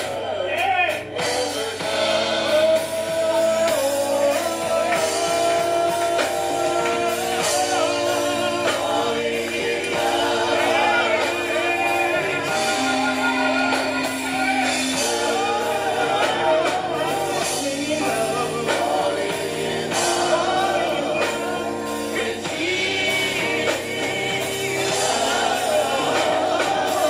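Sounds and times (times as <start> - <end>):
held instrumental chords: 0.0 - 27.0
person singing with vibrato: 0.0 - 27.0.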